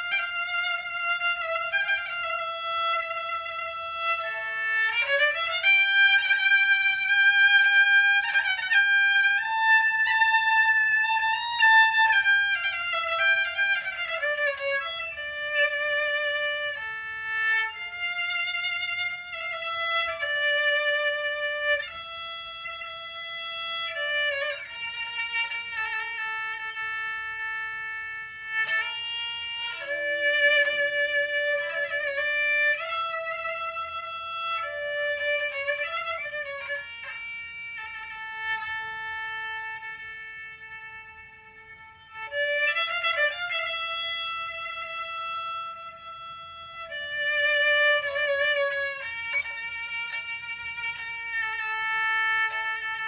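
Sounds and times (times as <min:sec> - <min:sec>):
violin melody with vibrato: 0:00.0 - 0:53.0.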